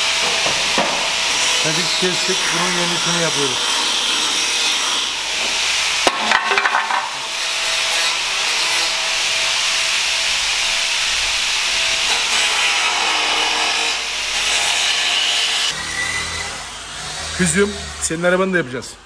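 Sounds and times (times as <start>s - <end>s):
power tool on metal panels: 0.0s - 18.4s.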